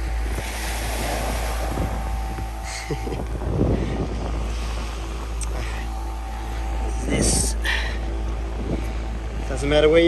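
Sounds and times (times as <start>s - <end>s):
small waves washing on beach: 0.0s - 9.5s
wind on microphone: 0.0s - 9.9s.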